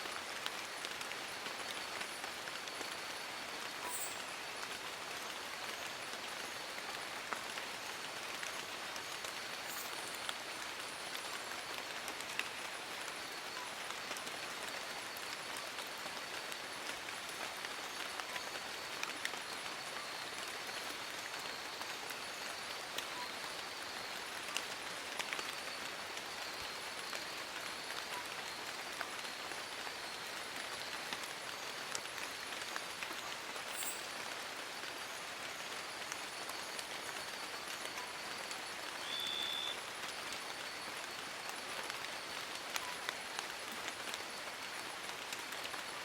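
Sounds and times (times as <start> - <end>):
rain falling on leaves: 0.0 - 46.0.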